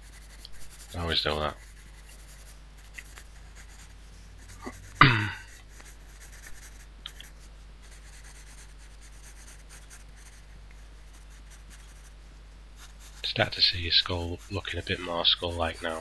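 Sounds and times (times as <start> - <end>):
pencil shading on paper: 0.0 - 12.2, 12.8 - 16.0.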